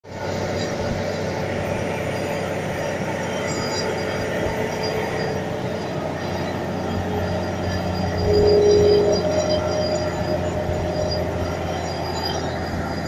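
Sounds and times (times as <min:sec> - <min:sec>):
diesel engine driving air compressor: 0:00.1 - 0:13.0.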